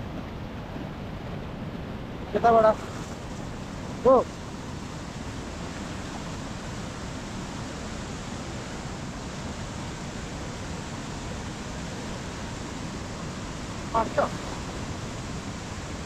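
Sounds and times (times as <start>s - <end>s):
river roaring over boulders: 0.0s - 16.0s.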